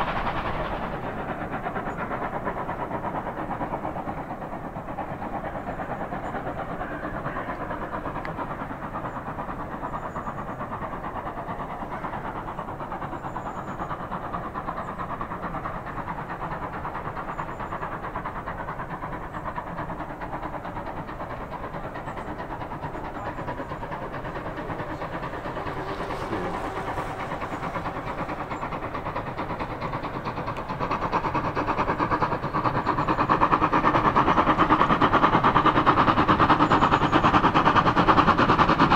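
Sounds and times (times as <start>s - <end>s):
steam locomotive exhaust: 0.0s - 38.9s.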